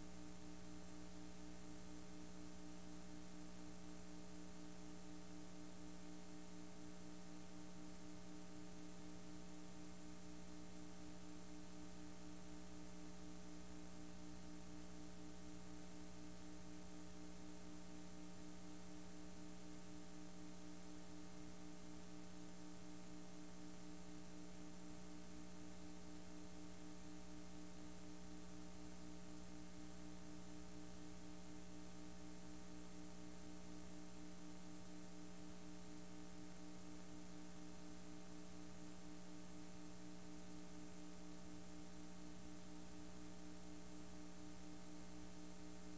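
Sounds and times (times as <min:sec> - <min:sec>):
steady electrical hum: 0:00.0 - 0:45.9.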